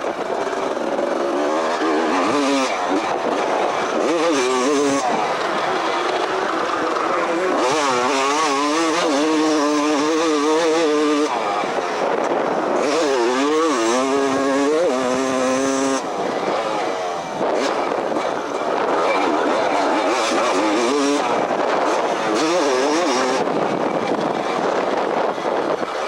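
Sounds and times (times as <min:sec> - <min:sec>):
two-stroke motorbike engine revving: 0:00.0 - 0:26.0.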